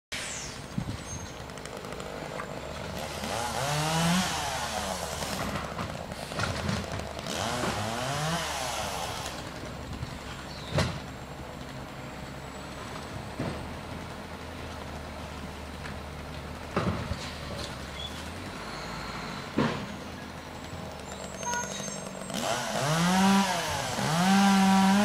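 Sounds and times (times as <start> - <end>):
diesel engine idling and revving: 0.2 - 25.0.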